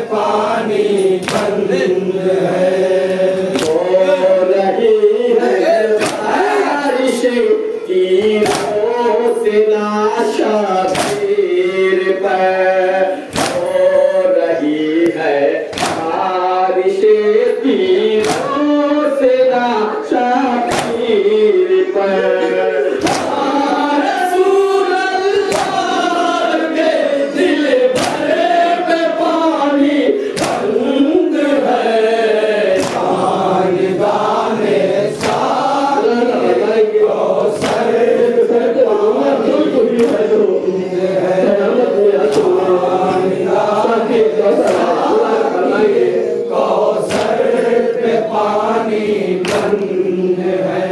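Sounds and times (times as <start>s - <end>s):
men chanting a lament: 0.0s - 50.9s.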